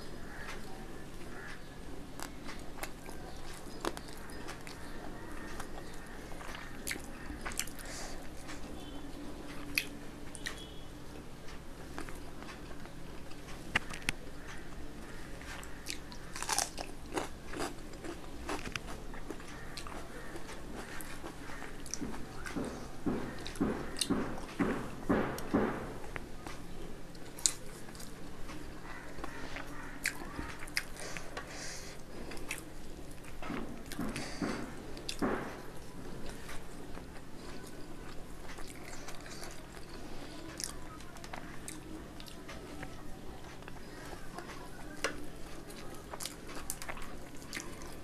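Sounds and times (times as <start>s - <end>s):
faint low hum: 0.0s - 48.0s
chewing and crunching: 1.3s - 10.7s, 11.9s - 48.0s.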